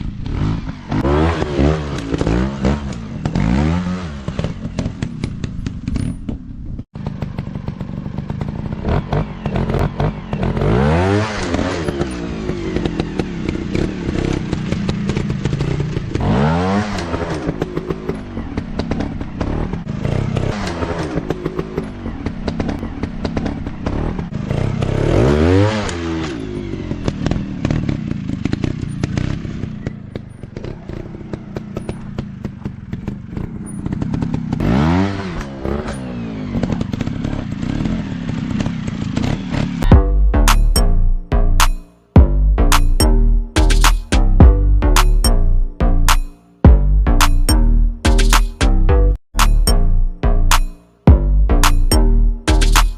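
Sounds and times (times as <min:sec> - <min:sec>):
dirt bike engine revving: 0:00.0 - 0:05.6, 0:07.0 - 0:52.9.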